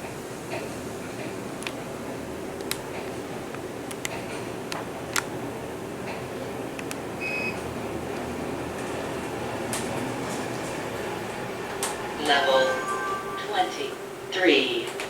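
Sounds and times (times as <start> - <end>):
elevator car humming: 0.0 - 15.0.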